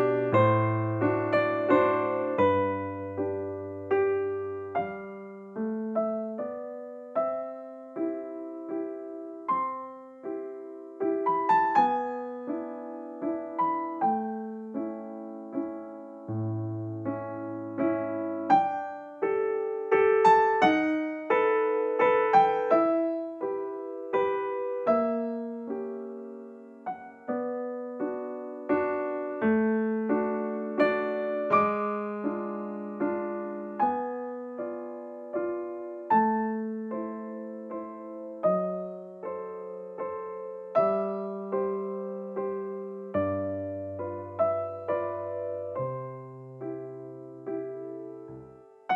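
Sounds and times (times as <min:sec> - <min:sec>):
gentle piano music: 0:00.0 - 0:48.9.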